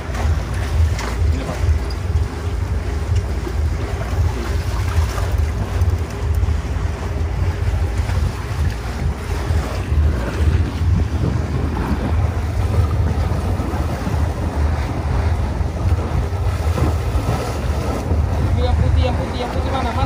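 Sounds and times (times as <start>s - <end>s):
sea wash: 0.0s - 20.0s
wind buffeting microphone: 0.0s - 20.0s.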